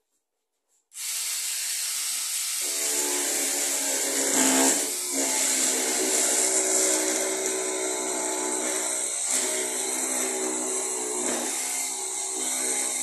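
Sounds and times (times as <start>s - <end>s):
handheld power saw cutting: 1.0s - 13.0s.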